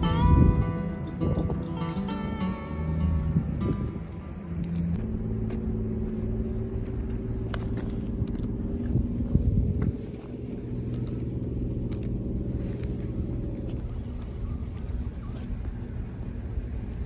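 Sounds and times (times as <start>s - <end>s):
engine drone: 0.0s - 17.0s
low rumble: 0.0s - 17.0s.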